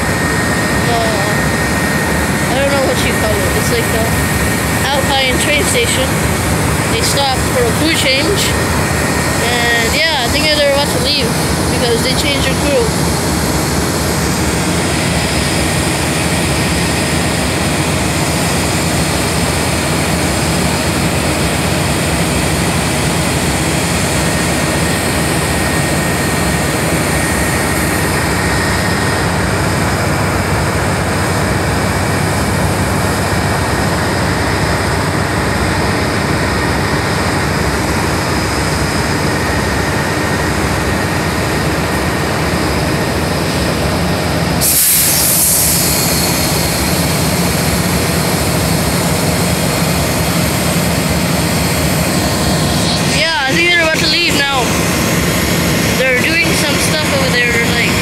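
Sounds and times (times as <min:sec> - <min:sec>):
diesel locomotives idling: 0:00.0 - 0:58.0.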